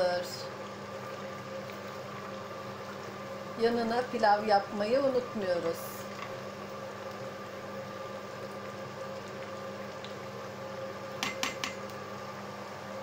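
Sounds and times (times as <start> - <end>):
pot simmering: 0.0 - 13.0
steady hum: 0.0 - 13.0.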